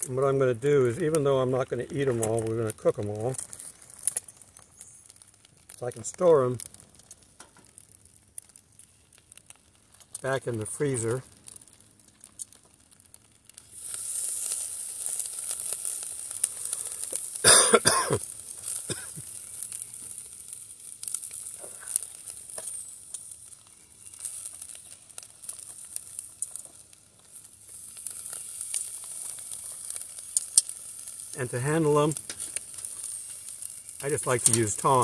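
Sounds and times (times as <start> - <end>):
clicks and crackles of patties: 0.0 - 35.0
patties sizzling on a grill: 0.0 - 35.0.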